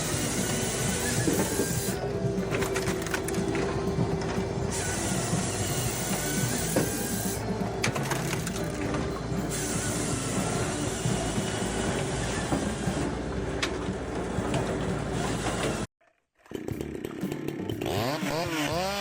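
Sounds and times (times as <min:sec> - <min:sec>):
heavy machinery drone: 0:00.0 - 0:15.9.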